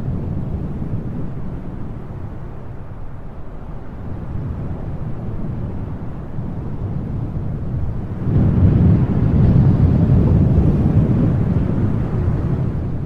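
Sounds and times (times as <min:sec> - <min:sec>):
wind blowing in gusts: 0:00.0 - 0:13.0.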